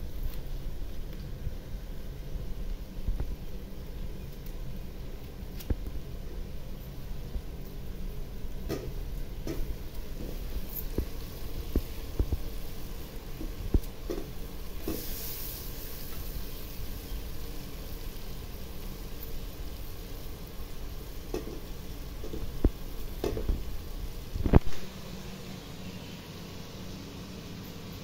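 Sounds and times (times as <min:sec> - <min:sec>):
food sizzling in a pot: 0:02.8 - 0:28.0.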